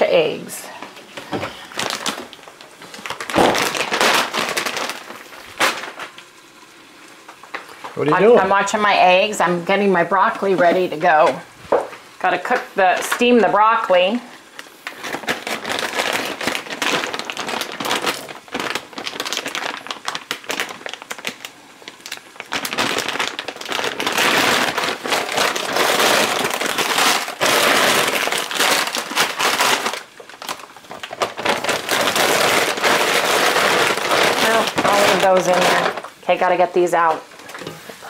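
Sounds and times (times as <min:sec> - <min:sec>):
plastic bag crinkling: 0:01.1 - 0:09.2, 0:12.8 - 0:37.7.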